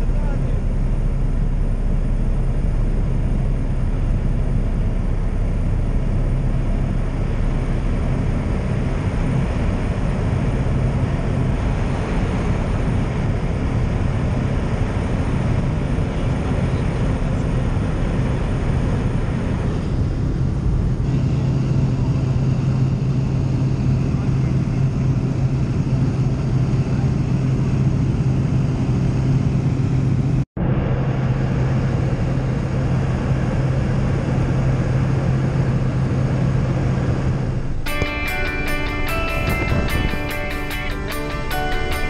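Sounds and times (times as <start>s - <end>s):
propeller plane engine drone: 0.0s - 42.0s.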